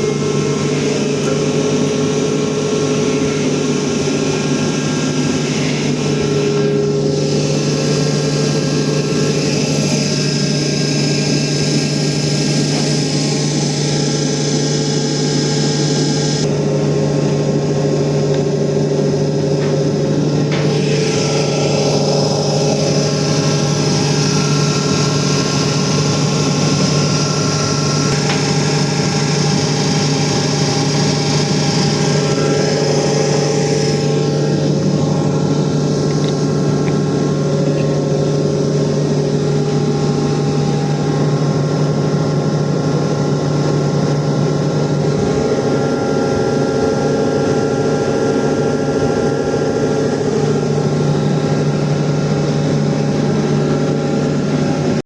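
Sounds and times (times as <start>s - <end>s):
air compressor humming: 0.0s - 55.0s.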